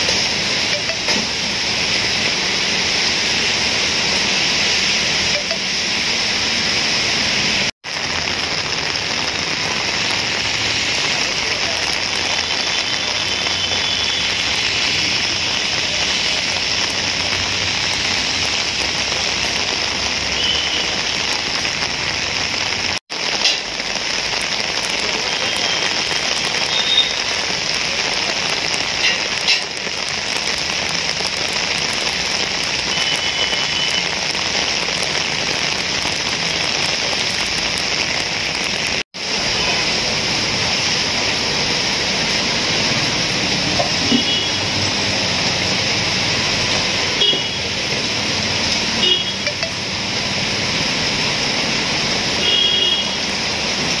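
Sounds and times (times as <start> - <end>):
heavy rain on street: 0.0 - 54.0.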